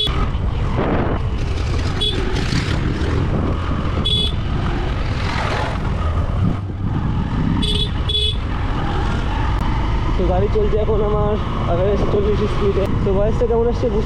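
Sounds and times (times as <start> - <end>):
motorcycle engine: 0.0 - 13.1
wind rumble: 0.0 - 14.0.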